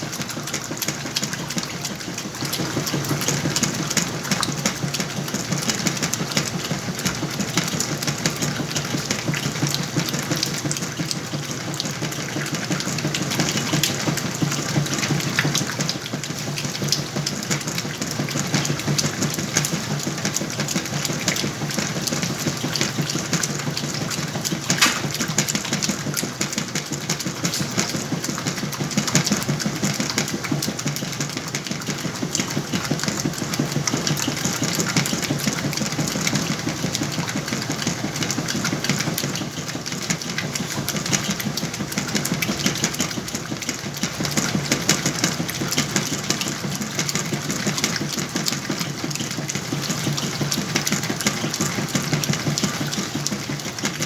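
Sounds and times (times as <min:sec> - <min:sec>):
washing machine motor hum: 0:00.0 - 0:54.0
washing machine rattle: 0:00.0 - 0:54.0.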